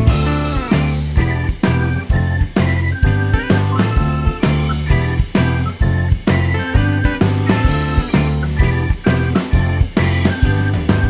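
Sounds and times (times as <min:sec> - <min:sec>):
music with guitar and drums: 0:00.0 - 0:11.0.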